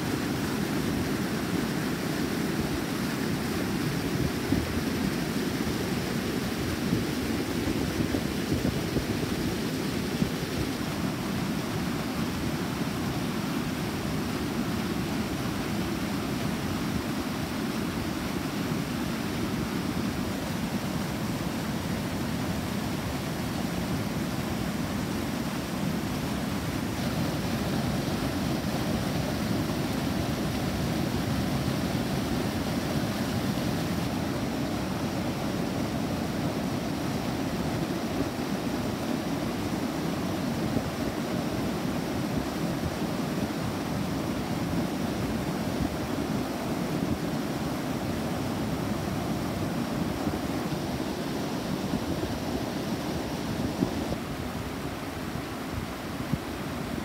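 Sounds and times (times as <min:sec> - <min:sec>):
river water rushing over weir: 0:00.0 - 0:57.0.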